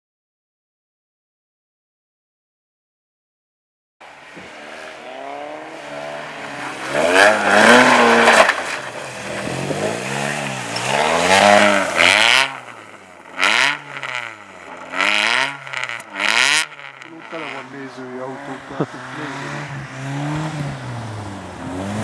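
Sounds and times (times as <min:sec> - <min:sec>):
car engine revving: 0:04.0 - 0:22.0.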